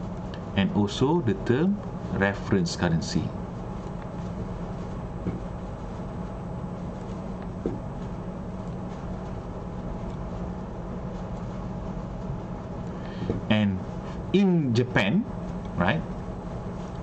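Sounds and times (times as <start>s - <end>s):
room noise hum and hiss: 0.0s - 17.0s.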